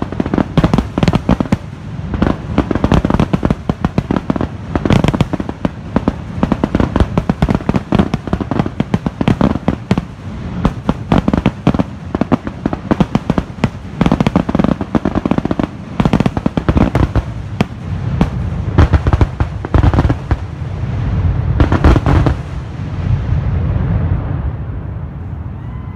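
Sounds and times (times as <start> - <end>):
fireworks bursting: 0.0 - 25.1.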